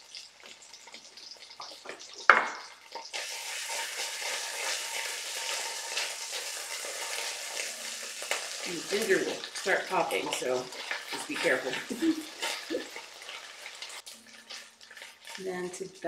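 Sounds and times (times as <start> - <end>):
onions sizzling in oil: 0.0 - 16.0
spatula stirring in pot: 2.8 - 15.8.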